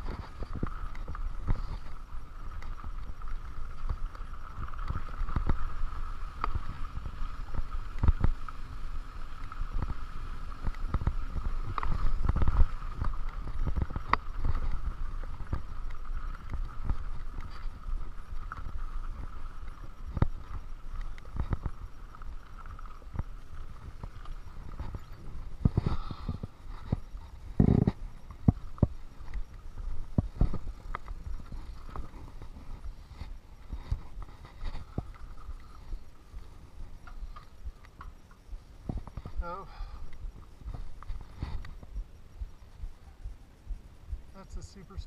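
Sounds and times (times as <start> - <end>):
bike knocking and rattling: 0.0 - 43.0
bike tyres rumbling on gravel: 0.0 - 45.0.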